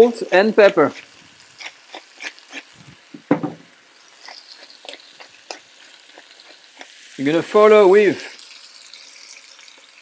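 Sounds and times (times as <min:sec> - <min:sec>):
chicken frying in hot fat: 0:00.0 - 0:10.0.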